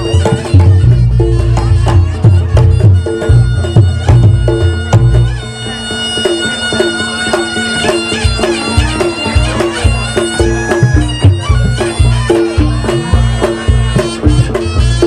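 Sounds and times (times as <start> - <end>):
drum strokes: 0.0 - 15.0
reedy wind instrument melody: 0.0 - 15.0.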